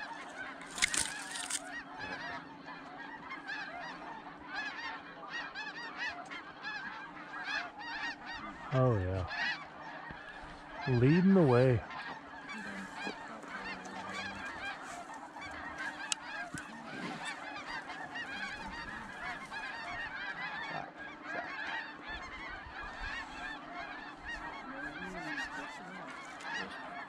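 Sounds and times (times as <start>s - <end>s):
flock of geese calling: 0.0s - 27.0s.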